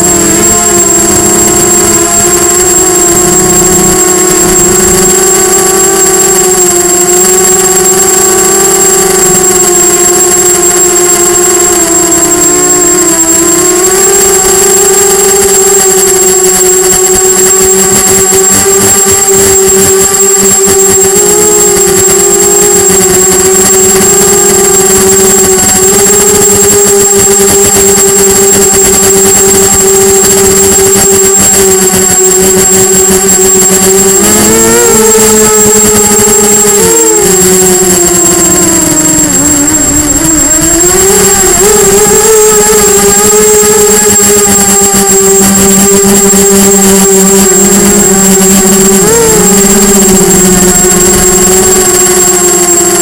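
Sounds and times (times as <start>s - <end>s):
constant high whine: 0.0s - 53.0s
drone motors buzzing: 0.0s - 53.0s.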